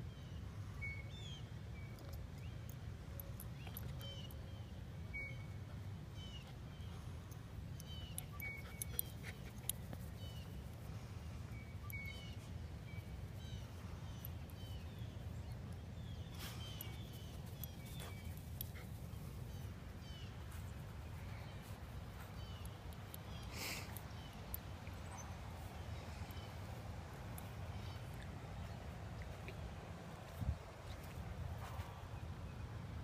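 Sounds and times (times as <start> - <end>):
small birds chirping: 0.2 - 32.3.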